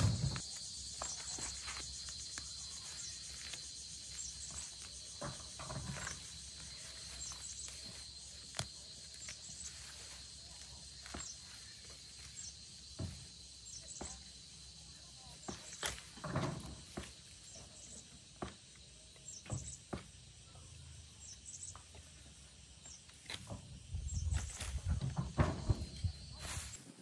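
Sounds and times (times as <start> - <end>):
rustles: 0.0 - 18.5, 21.2 - 27.0
high insect drone: 0.0 - 27.0.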